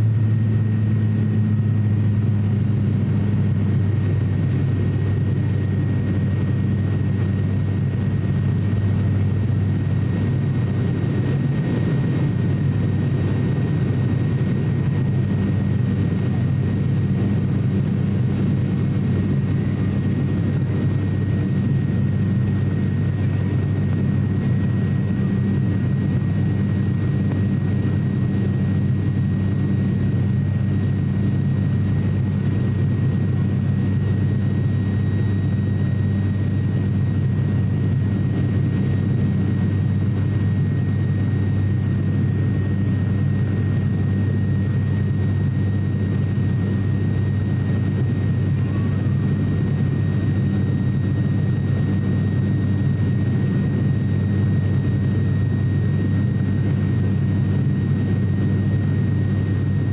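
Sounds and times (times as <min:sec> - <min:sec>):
high engine whine: 0:00.0 - 0:59.9
propeller plane cabin drone: 0:00.0 - 0:59.9.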